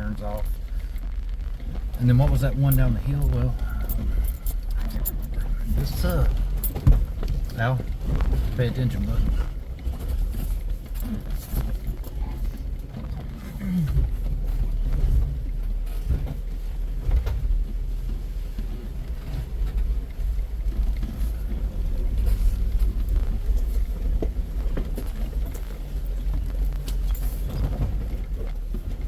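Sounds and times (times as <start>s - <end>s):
knocks and rattles over bumps: 0.0s - 29.0s
off-road vehicle engine rumble: 0.0s - 29.0s.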